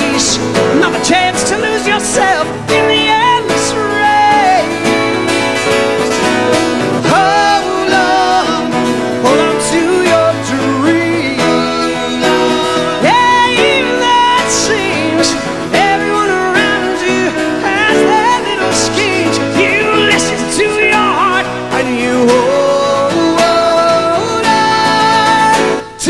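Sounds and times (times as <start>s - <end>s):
man singing: 0.0s - 26.0s
piano accompaniment: 0.0s - 26.0s
twelve-string acoustic guitar: 0.0s - 26.0s.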